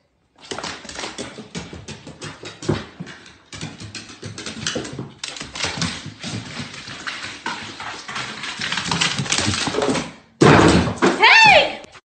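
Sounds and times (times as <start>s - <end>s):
dog claws clicking on stairs: 0.4s - 10.2s.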